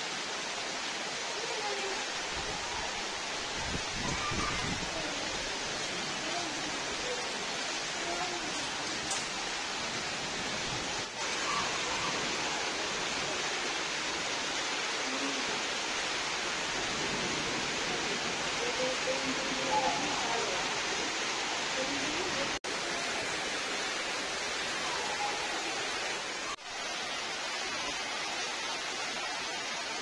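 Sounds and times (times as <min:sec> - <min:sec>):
rain on trees and buildings: 0:00.0 - 0:30.0.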